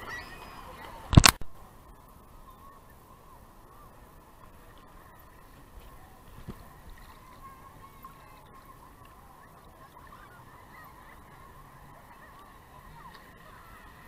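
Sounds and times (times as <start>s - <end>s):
sea water lapping and bubbling: 0.0s - 14.0s.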